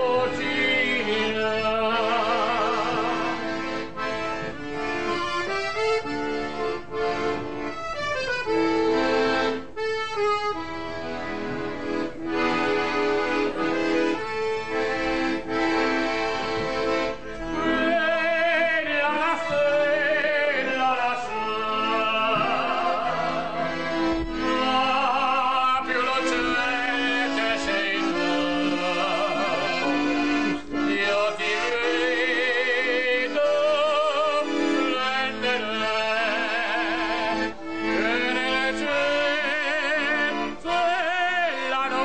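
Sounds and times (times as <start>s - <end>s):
accordion chords: 0.0s - 42.0s.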